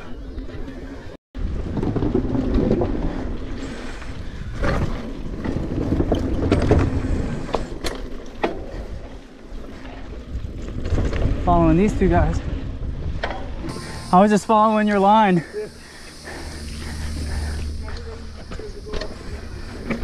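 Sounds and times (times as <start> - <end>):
bike tyres rolling over dirt: 0.0 - 20.0
bike knocking and rattling: 1.4 - 12.3, 14.8 - 20.0.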